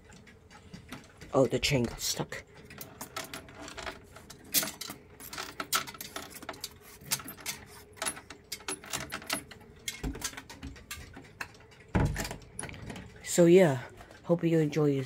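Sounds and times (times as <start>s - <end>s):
clock chain rattling and clicking: 0.0s - 15.0s.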